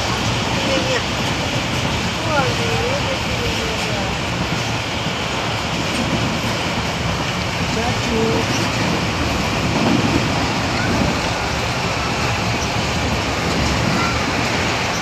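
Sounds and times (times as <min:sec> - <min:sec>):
train running noise inside carriage: 0:00.0 - 0:15.0.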